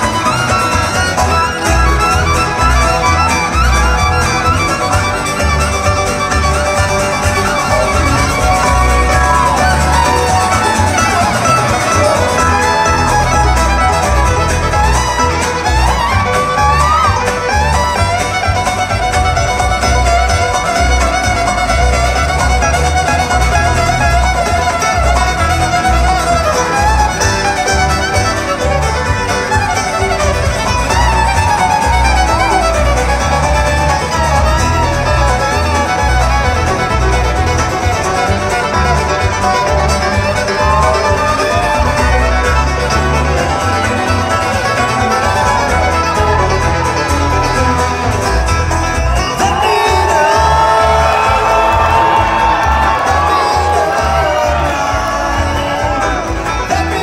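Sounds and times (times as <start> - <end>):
amplified fiddle solo: 0.0 - 57.0
live band with bass pulse: 0.0 - 57.0.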